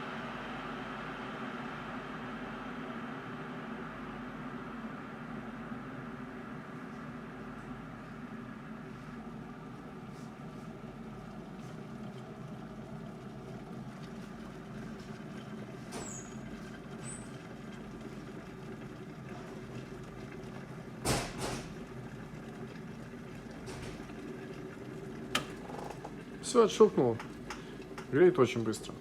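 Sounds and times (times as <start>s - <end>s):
electric kettle heating water: 0.0s - 29.0s.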